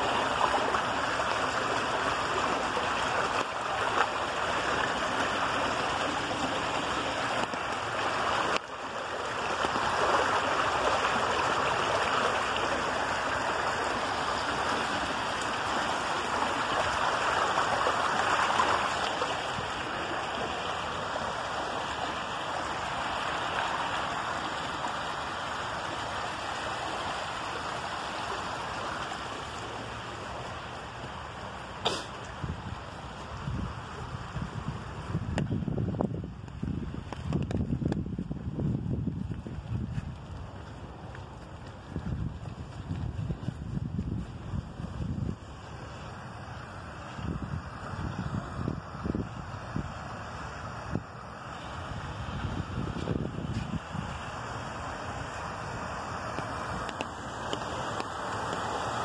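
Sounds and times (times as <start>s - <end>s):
water rushing over rock: 0.0s - 38.9s, 40.4s - 59.0s.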